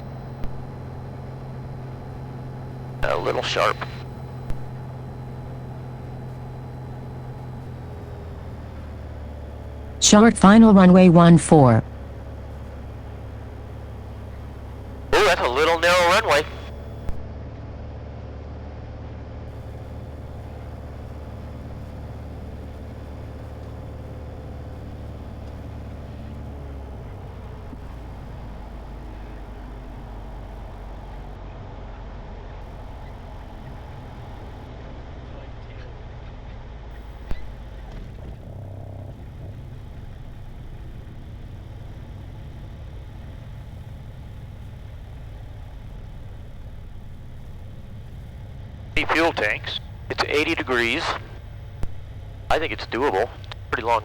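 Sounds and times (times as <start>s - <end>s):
propeller plane engine droning: 0.0s - 31.4s, 32.6s - 34.7s, 36.9s - 54.0s.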